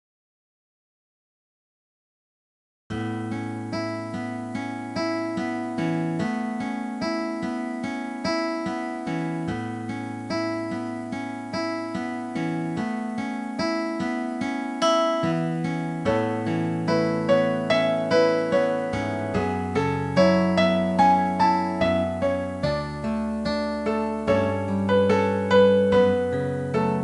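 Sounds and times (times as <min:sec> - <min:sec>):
gentle plucked or keyboard music: 0:02.9 - 0:27.0.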